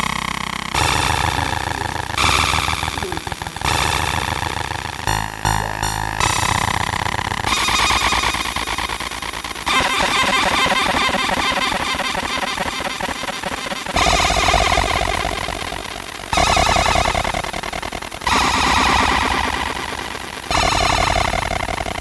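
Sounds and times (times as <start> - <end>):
laser engraver buzzing: 0.6 - 22.0.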